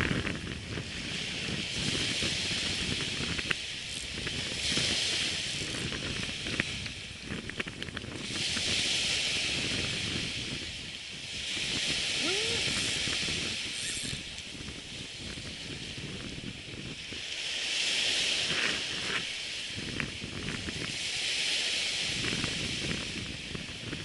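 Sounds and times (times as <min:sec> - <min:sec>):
waves washing on beach: 0:00.0 - 0:24.0
wind rumble on microphone: 0:00.0 - 0:24.0.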